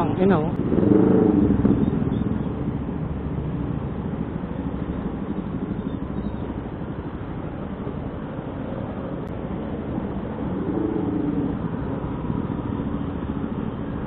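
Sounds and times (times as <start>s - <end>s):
vehicle engines rumbling in traffic: 0.0s - 14.0s.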